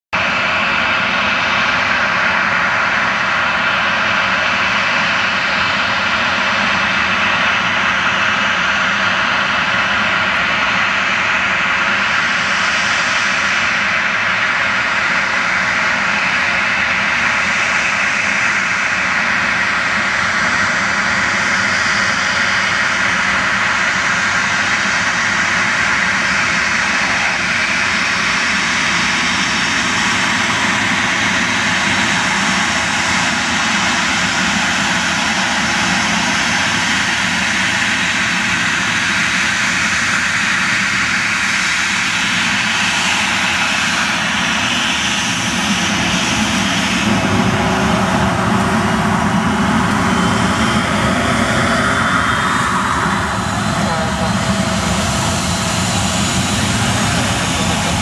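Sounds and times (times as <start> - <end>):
jet engines running: 0.2 - 58.0.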